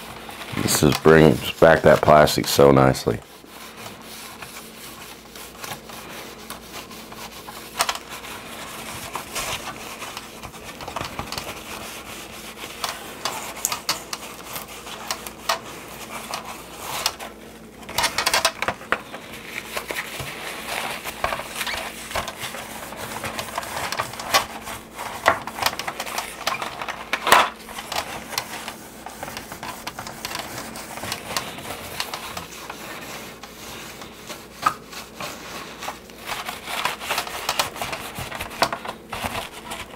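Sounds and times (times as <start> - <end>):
paper napkin wiping plastic: 0.0 - 39.9.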